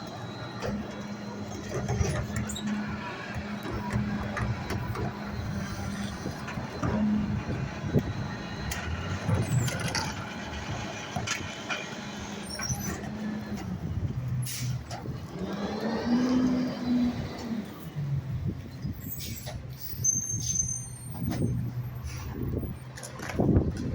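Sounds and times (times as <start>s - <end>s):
garbage truck engine running: 0.0s - 19.9s.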